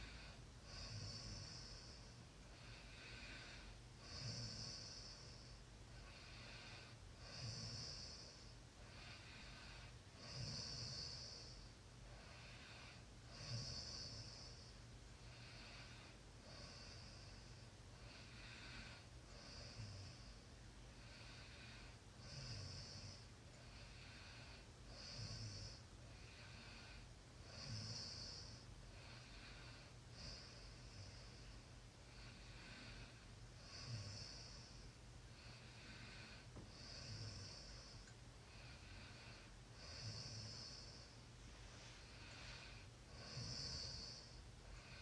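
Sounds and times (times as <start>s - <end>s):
person snoring faintly: 0.0s - 20.4s, 21.0s - 45.0s.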